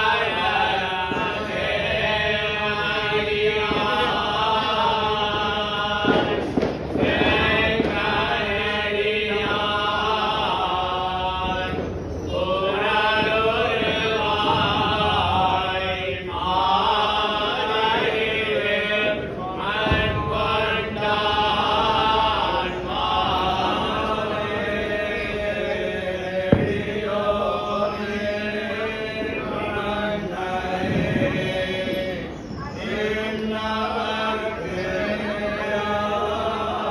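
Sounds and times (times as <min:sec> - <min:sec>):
men chanting a hymn: 0:00.0 - 0:36.9.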